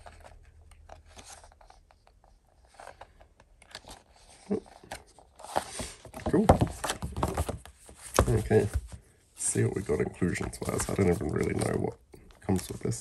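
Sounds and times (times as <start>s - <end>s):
paper pages rustling: 0.0s - 11.9s.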